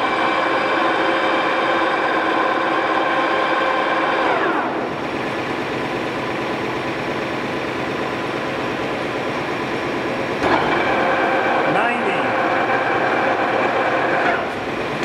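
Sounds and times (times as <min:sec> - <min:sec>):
lathe running noise: 0:00.0 - 0:15.0
lathe spindle whine: 0:00.0 - 0:15.0.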